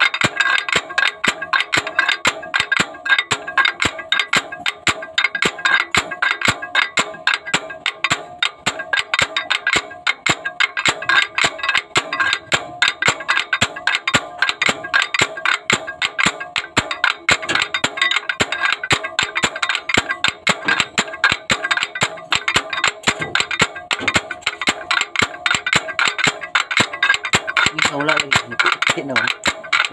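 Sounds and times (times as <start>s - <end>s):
slide hammer clanging metal: 0.0s - 29.9s.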